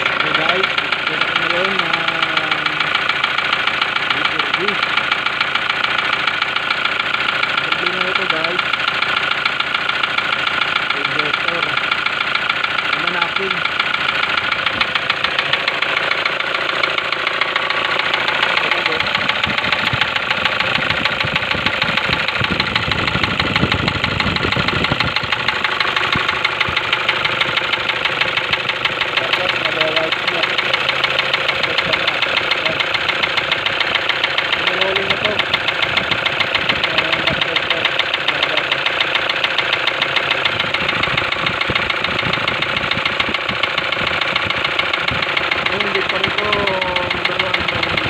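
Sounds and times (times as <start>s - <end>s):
diesel engine idling with knocking: 0.0s - 48.0s.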